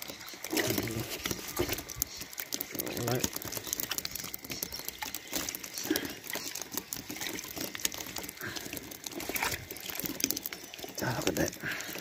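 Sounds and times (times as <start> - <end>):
fish flapping on wet wooden boards: 0.0 - 12.0.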